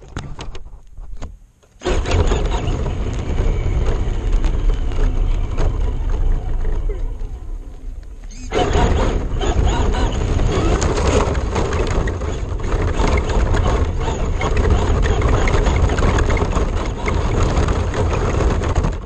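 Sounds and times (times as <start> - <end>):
toy car chassis rattling: 1.7 - 19.0
tyres crunching on gravel: 2.2 - 19.0.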